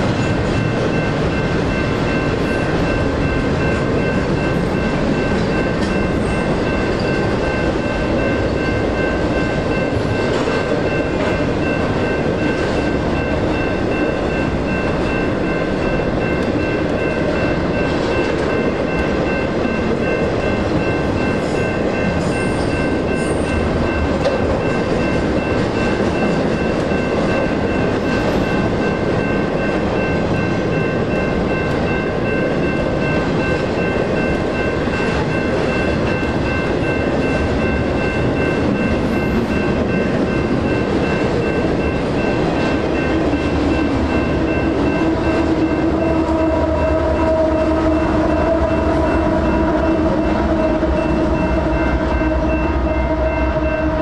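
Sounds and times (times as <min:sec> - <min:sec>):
crossing bells dinging: 0:00.0 - 0:54.0
freight train rumble and clatter: 0:00.0 - 0:54.0.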